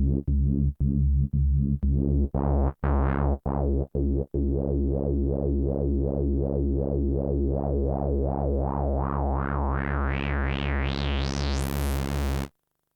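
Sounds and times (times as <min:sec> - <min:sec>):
synthesizer bass sequence: 0:00.0 - 0:12.5.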